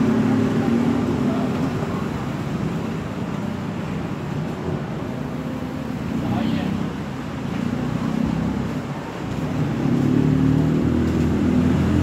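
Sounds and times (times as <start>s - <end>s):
engine hum: 0.0s - 12.0s
road traffic hum: 0.0s - 12.0s.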